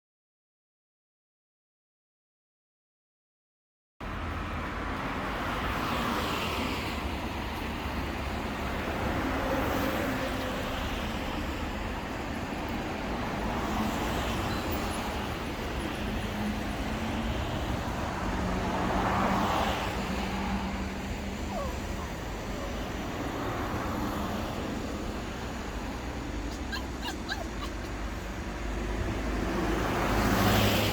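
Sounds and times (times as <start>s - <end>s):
cars passing with tyre hiss: 4.0s - 30.9s
traffic rumble: 4.0s - 30.9s.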